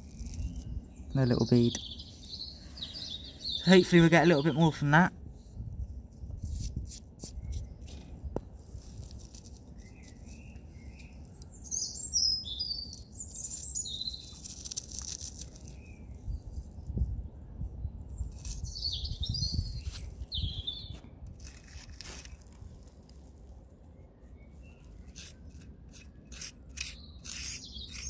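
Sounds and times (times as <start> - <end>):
small birds chirping: 0.0 - 5.1, 7.1 - 21.6, 24.0 - 28.0.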